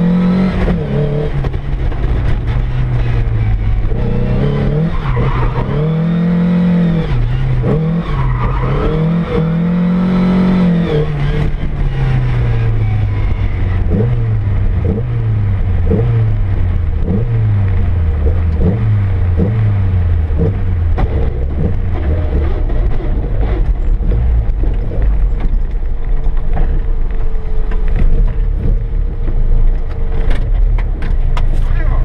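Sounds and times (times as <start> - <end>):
car engine revving and idling: 0.0 - 32.0.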